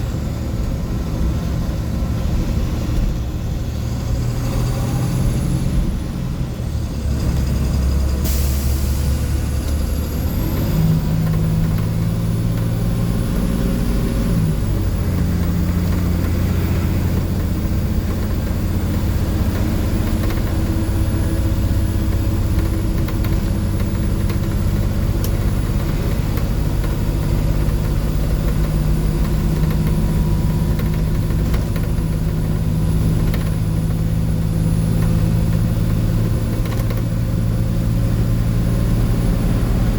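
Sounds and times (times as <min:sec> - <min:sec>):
diesel bus engine: 0:00.0 - 0:39.9.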